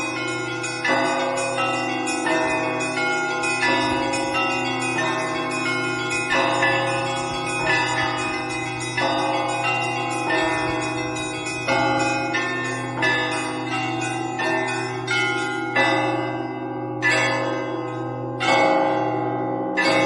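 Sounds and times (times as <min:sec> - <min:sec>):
large bell low hum: 0:00.0 - 0:20.0
small church bells ringing: 0:00.0 - 0:20.0.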